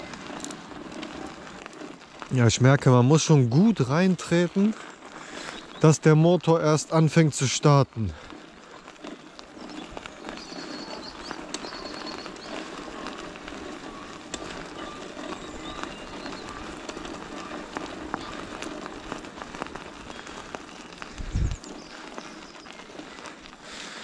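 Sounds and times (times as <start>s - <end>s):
faint electric motor whir: 0.0s - 6.2s, 8.0s - 24.0s
tyres crunching on gravel: 0.0s - 24.0s.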